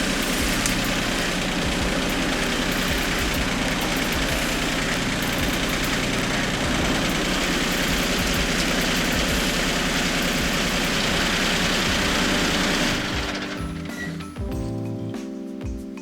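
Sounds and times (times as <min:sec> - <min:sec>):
tractor engine running: 0:00.0 - 0:14.5.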